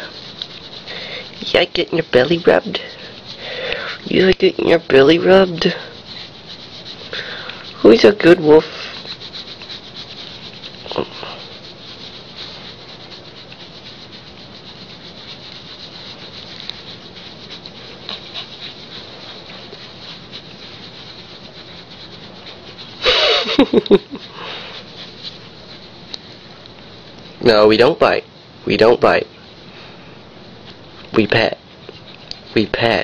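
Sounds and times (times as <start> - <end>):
hands rubbing dog fur: 0.0 - 33.0.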